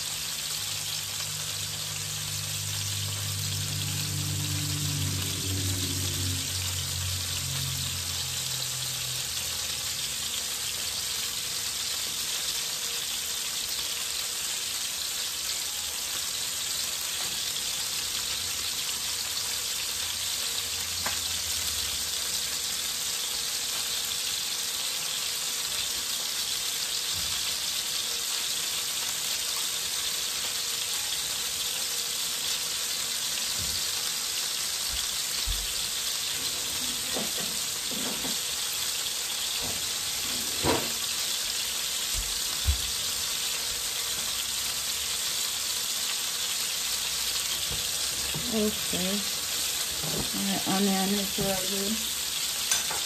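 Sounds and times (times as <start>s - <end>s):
fish sizzling in oil: 0.0s - 53.0s.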